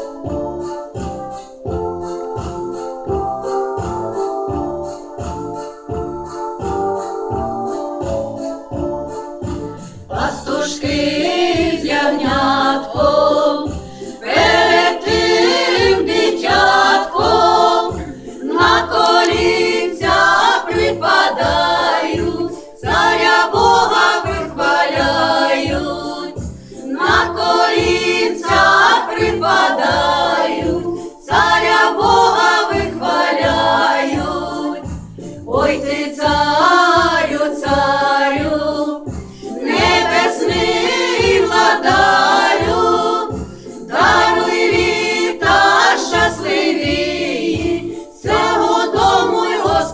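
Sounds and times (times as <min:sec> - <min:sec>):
accompaniment with low beat: 0:00.2 - 0:49.9
small choir singing a carol: 0:02.0 - 0:49.9.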